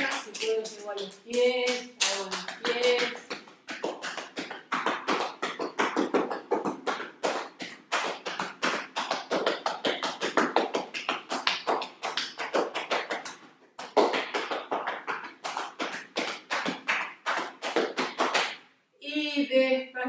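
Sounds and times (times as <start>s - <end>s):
hands slapping legs: 0.0s - 18.6s.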